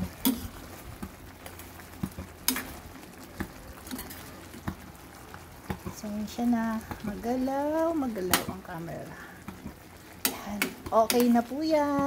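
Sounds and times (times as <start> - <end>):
sauce bubbling: 0.0 - 12.0.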